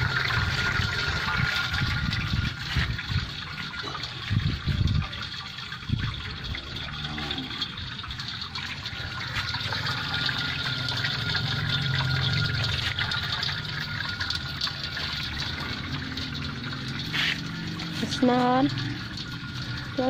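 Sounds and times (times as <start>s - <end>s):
cow drinking: 0.0s - 20.0s
water pouring into metal basin: 0.0s - 20.0s.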